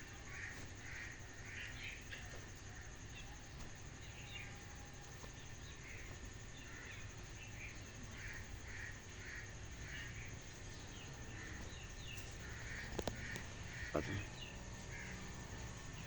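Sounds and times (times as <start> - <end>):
bird calls: 0.0 - 16.0.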